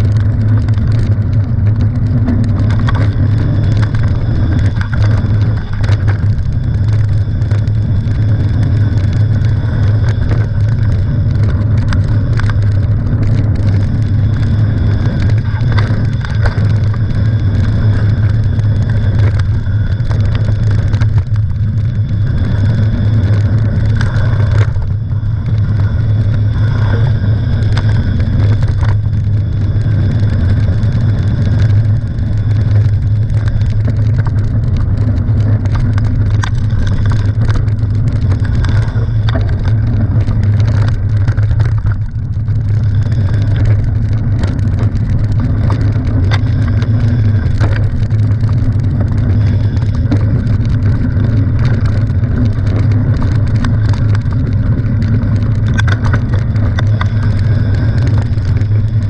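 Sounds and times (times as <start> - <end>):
bike rattles and clicks: 0.0 - 59.0
wind and frame vibration rumble: 0.0 - 59.0.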